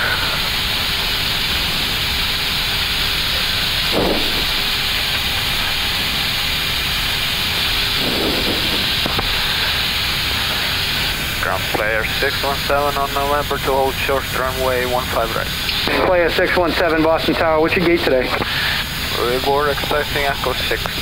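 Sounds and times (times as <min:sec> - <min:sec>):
cockpit airflow and engine hiss: 0:00.0 - 0:21.0.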